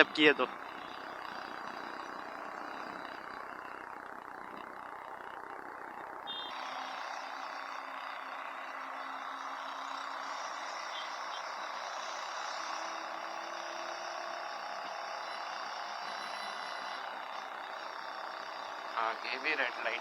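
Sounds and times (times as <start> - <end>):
congested city traffic: 0.0 - 20.0
faint engine hums: 0.0 - 20.0.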